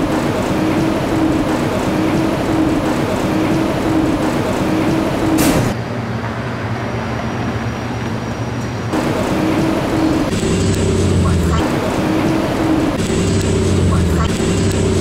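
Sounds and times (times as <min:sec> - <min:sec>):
escalator machinery rumbling: 0:00.0 - 0:15.0
low hum: 0:00.0 - 0:15.0.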